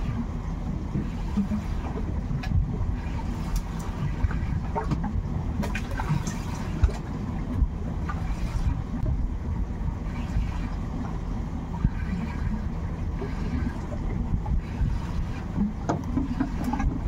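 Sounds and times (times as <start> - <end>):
boat low rumble: 0.0 - 17.0.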